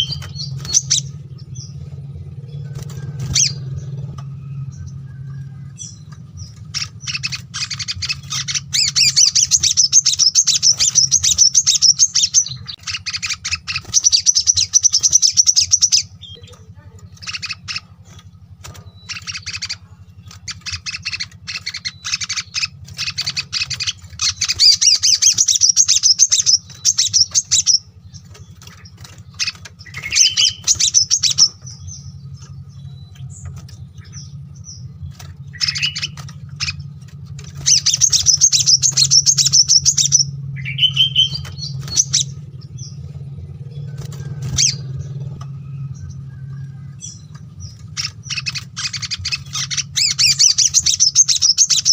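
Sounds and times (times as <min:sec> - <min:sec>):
small songbirds twittering: 0:00.0 - 0:51.9
steady low hum: 0:00.0 - 0:51.9.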